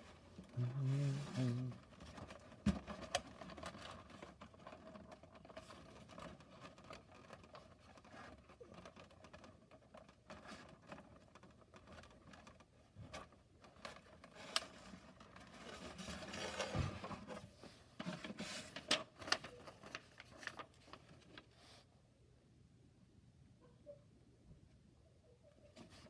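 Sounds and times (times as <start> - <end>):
cardboard rustling: 0.0 - 21.8.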